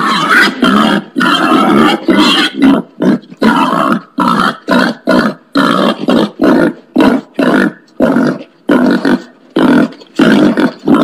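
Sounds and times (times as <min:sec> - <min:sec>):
wild pig grunting: 0:00.0 - 0:11.0.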